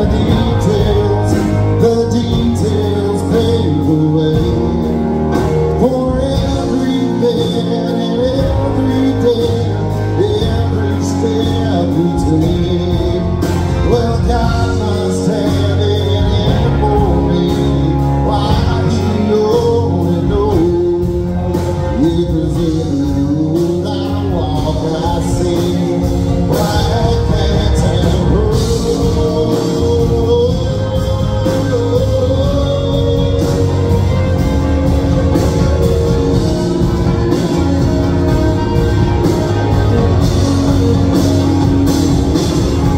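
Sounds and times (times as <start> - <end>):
live country band: 0.0 - 42.9.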